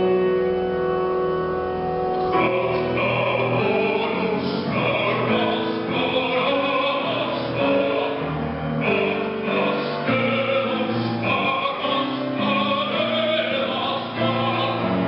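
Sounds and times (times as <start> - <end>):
man singing opera-style: 2.2 - 15.0.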